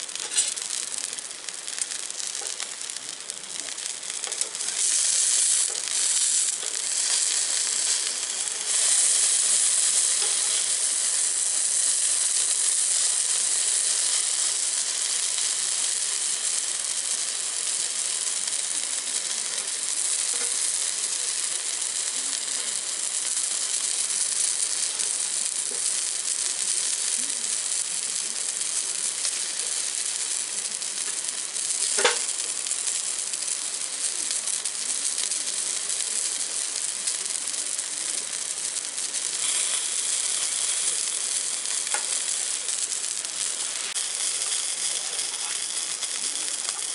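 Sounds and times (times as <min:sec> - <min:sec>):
food sizzling in a pan: 0:00.0 - 0:46.9.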